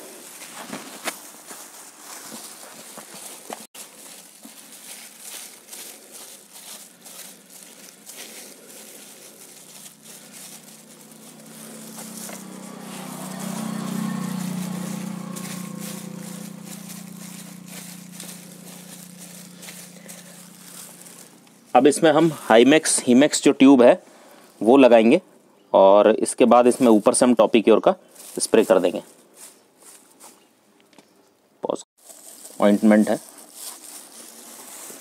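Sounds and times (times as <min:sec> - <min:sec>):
plastic gloves crinkling: 0:00.0 - 0:22.7, 0:26.4 - 0:30.4, 0:32.0 - 0:35.0.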